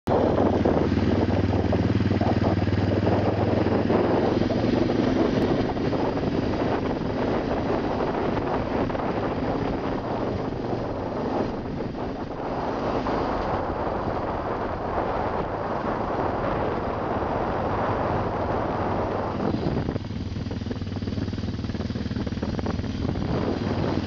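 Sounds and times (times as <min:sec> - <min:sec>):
low engine hum: 0:00.1 - 0:24.0
road rumble on gravel: 0:00.1 - 0:24.0.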